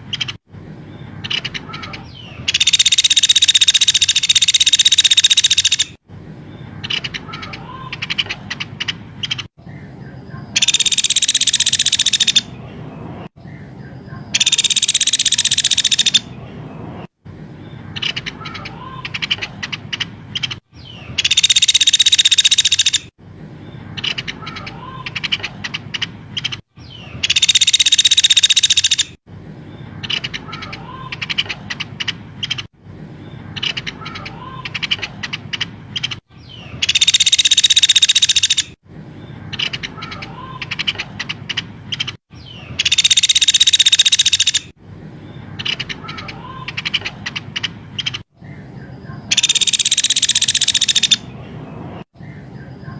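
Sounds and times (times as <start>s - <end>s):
buzzy bird trills: 0.0s - 52.9s
rapid chattering bird chirps: 0.0s - 52.9s.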